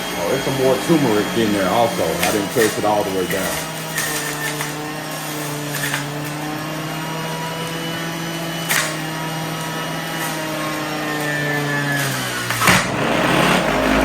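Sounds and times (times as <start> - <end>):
juicer motor humming: 0.0 - 14.0.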